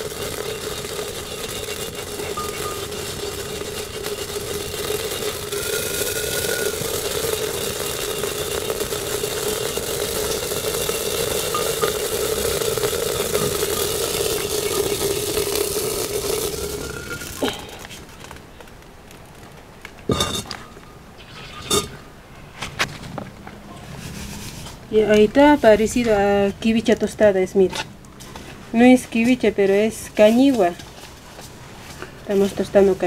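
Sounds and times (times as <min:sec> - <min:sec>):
grains scraping in a clay pot: 0:00.0 - 0:18.4, 0:23.8 - 0:33.0
constant low hum: 0:00.0 - 0:33.0.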